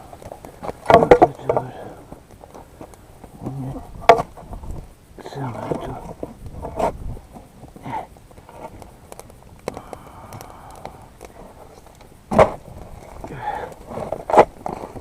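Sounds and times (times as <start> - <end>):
firewood rustling and knocking: 0.0 - 15.0
sharp wood cracks: 0.0 - 15.0.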